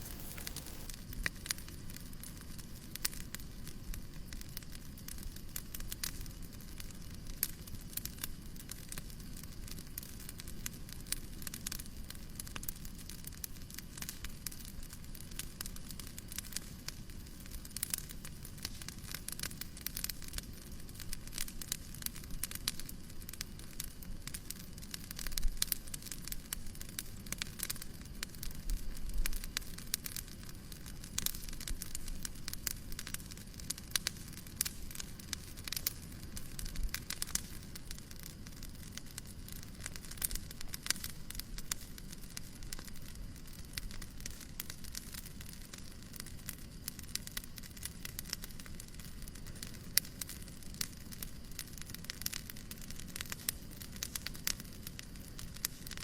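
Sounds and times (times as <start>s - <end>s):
fireplace crackling: 0.0s - 56.0s.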